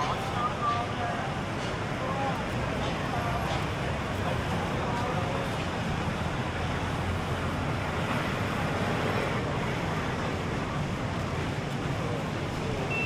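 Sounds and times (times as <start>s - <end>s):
road traffic: 0.0s - 13.0s
wind: 0.0s - 13.0s.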